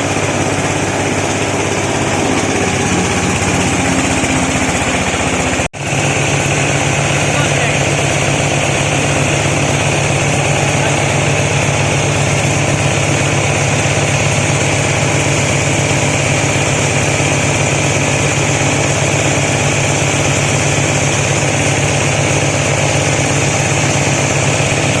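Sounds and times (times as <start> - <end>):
grinding mill droning: 0.0 - 25.0.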